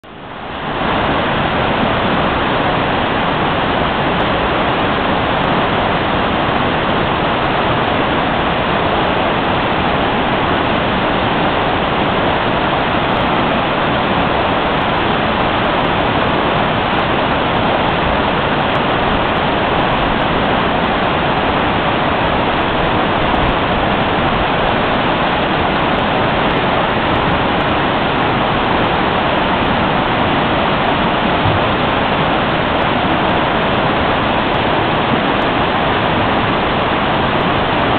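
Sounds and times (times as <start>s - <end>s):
floodwater roaring: 0.0s - 37.9s.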